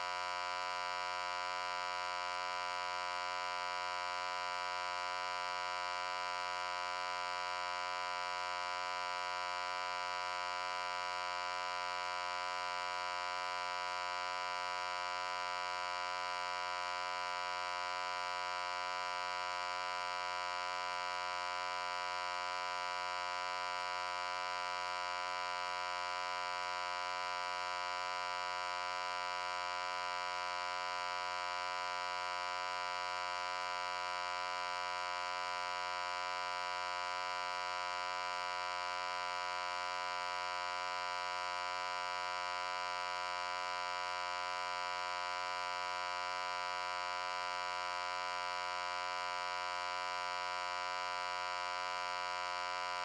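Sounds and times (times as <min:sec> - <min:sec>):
loud buzzy electric hum: 0:00.0 - 0:53.0.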